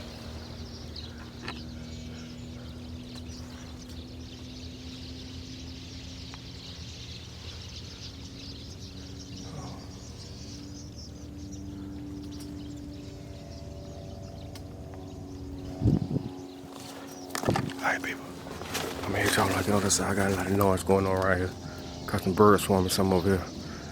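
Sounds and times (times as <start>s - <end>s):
birds chattering and chirping: 0.0s - 23.9s
low hum: 0.0s - 23.9s.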